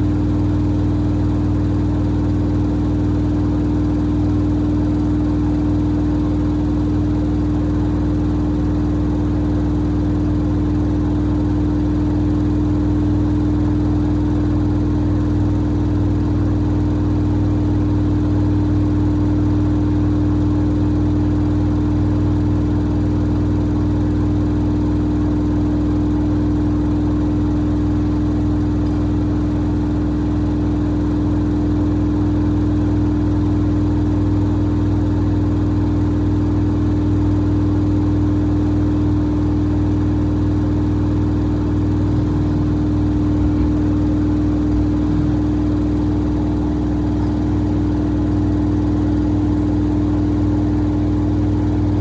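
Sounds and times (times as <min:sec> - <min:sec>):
washer-dryer humming and whining: 0:00.0 - 0:52.0.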